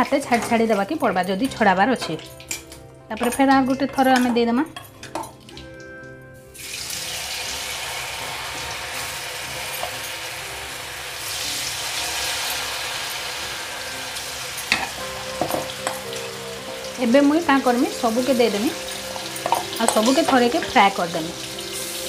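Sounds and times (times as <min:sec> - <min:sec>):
food sizzling in hot oil: 0:04.2 - 0:22.0.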